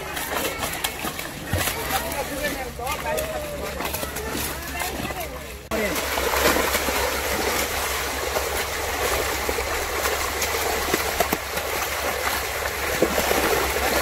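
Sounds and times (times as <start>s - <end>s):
fish thrashing and splashing: 0.0s - 14.0s.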